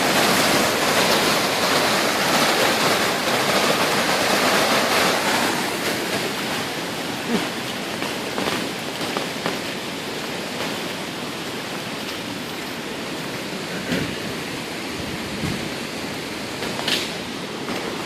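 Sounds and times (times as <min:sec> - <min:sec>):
flooded creek rushing: 0:00.0 - 0:18.0.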